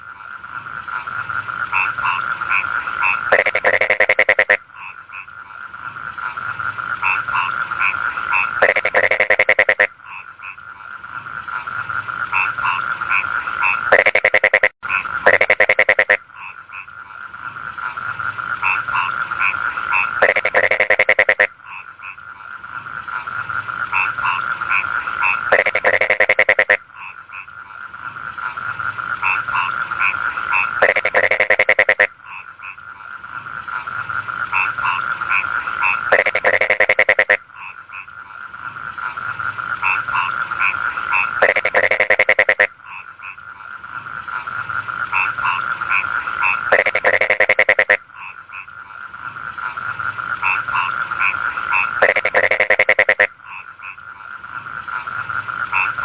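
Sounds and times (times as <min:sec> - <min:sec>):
frog chorus high-pitched: 0:00.0 - 0:56.0
frog pulsed croaking call: 0:00.0 - 0:56.0.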